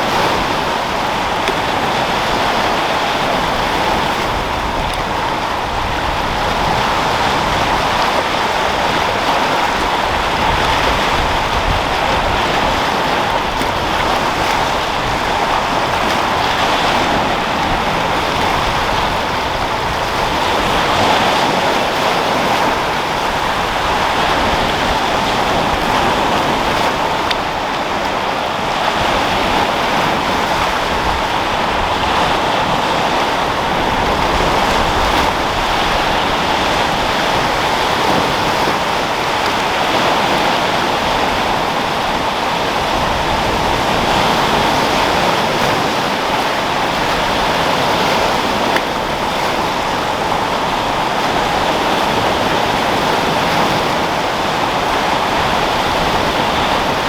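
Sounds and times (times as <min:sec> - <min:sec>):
waves breaking against rocks: 0:00.0 - 0:57.0
wind: 0:00.0 - 0:57.0.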